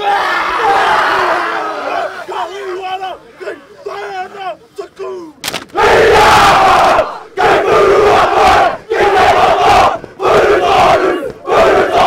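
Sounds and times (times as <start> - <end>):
many voices shouting in unison: 0.0 - 4.3, 5.8 - 12.0.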